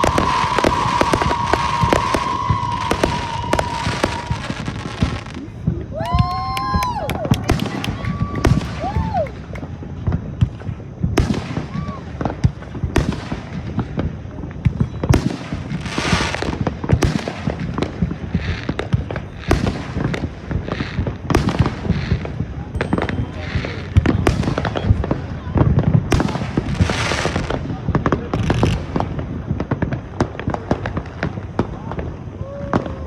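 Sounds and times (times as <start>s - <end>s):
firework bangs: 0.0s - 33.0s
firework crackle: 0.0s - 33.0s
firework whistles: 0.0s - 33.0s.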